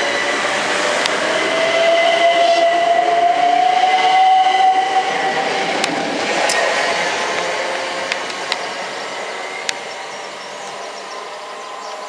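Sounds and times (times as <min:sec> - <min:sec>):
train motor whine rising: 0:00.0 - 0:12.0
train wheels on rails: 0:00.0 - 0:12.0.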